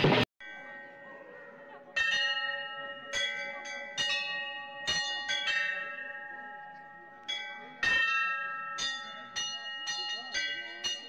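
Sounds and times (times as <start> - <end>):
temple bells ringing: 0.4 - 11.0.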